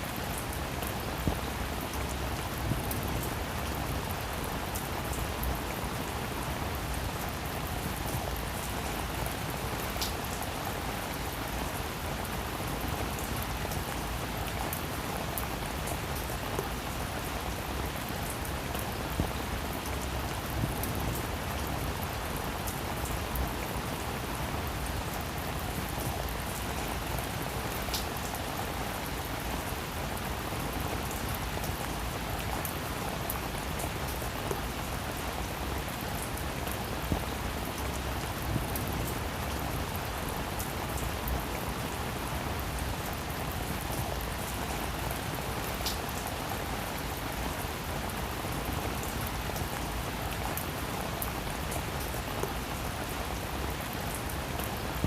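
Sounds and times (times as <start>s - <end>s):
rain hissing on a roof: 0.0s - 55.0s.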